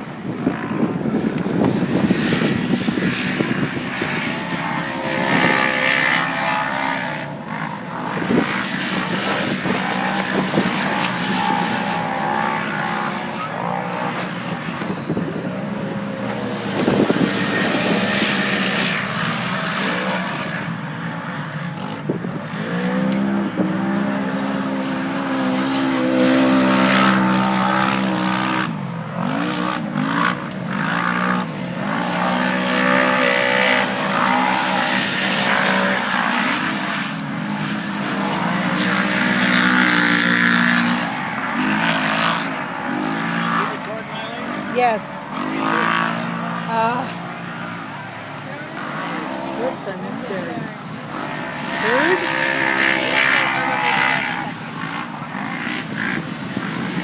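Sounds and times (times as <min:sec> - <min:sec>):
race vehicle engines revving: 0:00.0 - 0:57.0.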